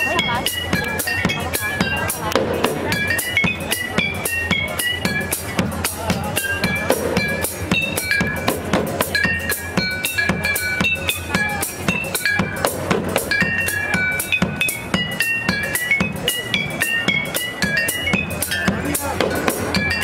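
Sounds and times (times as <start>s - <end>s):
drum kit playing fast beat: 0.0s - 20.0s
high melody of short notes: 0.0s - 20.0s.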